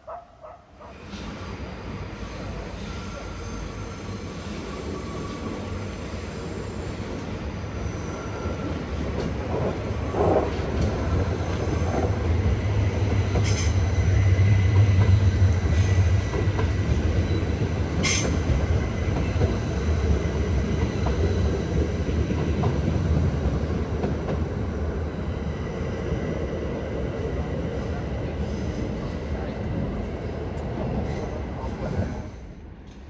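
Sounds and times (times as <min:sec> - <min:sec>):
electric train rumbling on track: 0:00.0 - 0:33.0.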